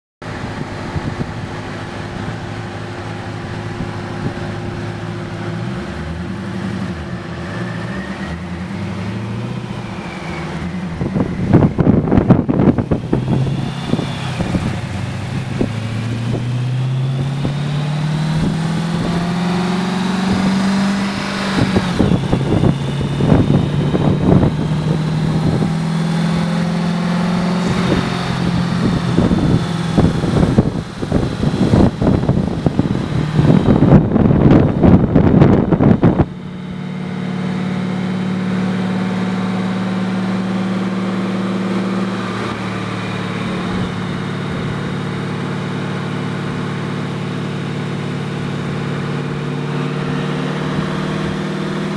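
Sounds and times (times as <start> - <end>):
car engine revving: 0.2 - 51.9.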